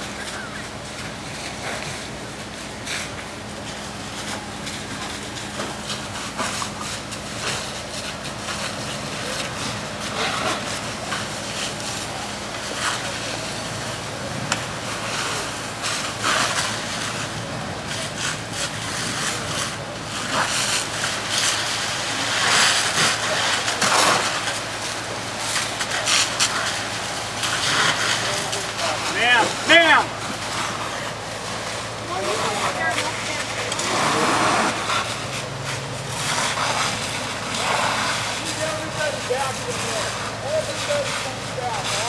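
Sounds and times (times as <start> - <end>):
fire crackling and roaring: 0.0 - 42.0
low engine hum: 0.0 - 42.0.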